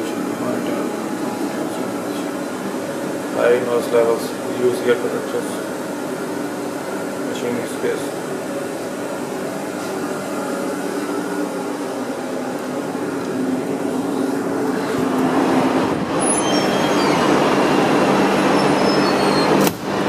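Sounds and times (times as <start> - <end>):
engine room machinery drone: 0.0 - 20.0.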